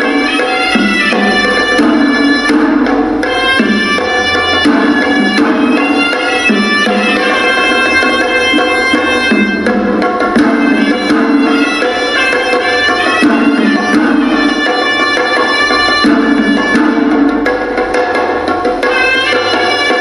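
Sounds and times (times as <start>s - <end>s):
shrill reed pipe melody: 0.0s - 9.7s, 10.5s - 17.2s, 18.8s - 20.0s
temple drums beating: 0.0s - 20.0s.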